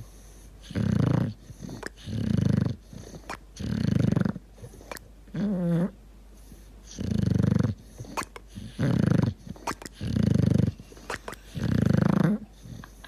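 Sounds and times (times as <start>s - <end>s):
dog snoring: 0.0s - 13.0s
dog whining: 0.7s - 6.0s, 6.9s - 13.0s.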